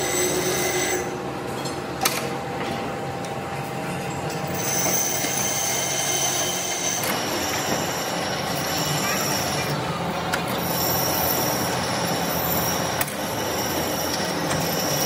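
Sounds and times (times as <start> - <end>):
heavy factory machinery running: 0.0 - 15.0.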